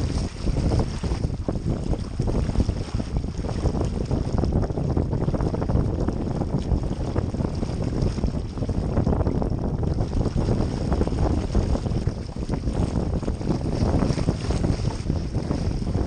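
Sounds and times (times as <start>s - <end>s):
water rushing along a hull: 0.0s - 16.0s
wind buffeting the microphone: 0.0s - 16.0s.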